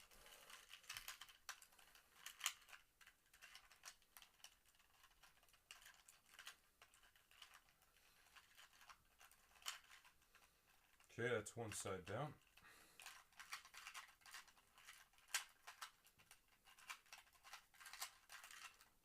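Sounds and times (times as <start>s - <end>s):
puzzle cube clicking and scraping: 0.0s - 19.0s.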